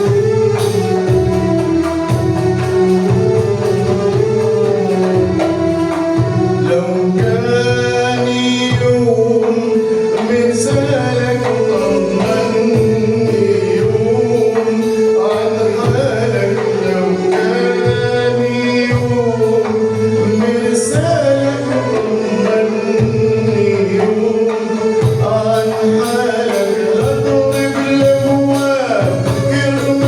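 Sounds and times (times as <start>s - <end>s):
hand percussion rhythm: 0.0s - 30.0s
instrumental accompaniment: 0.0s - 30.0s
man singing: 0.0s - 30.0s.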